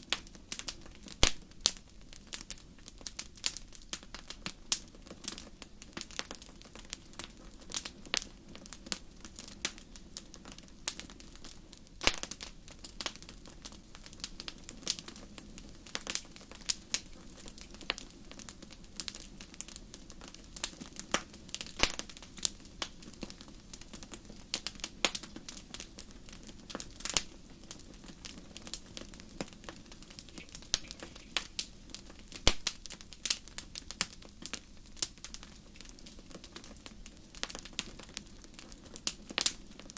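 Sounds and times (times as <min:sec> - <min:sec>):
campfire crackling: 0:00.0 - 0:39.9
soft steady hiss: 0:00.0 - 0:39.9.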